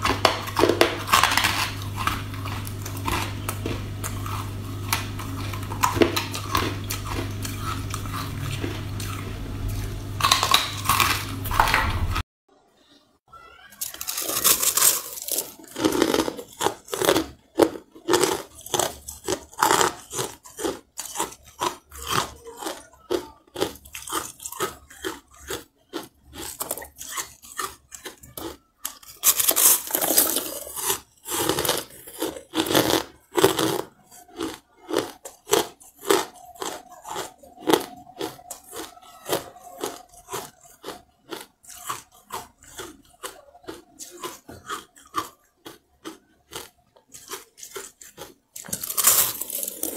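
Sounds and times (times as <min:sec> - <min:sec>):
ice being chewed crunching: 0:00.0 - 0:12.2, 0:13.8 - 0:49.9.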